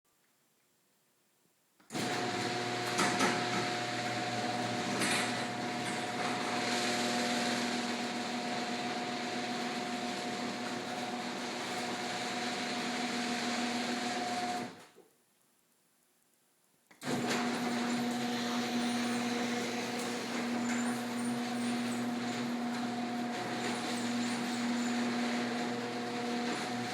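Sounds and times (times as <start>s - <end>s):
garage door opener motor hum: 1.9s - 14.8s, 17.0s - 26.9s.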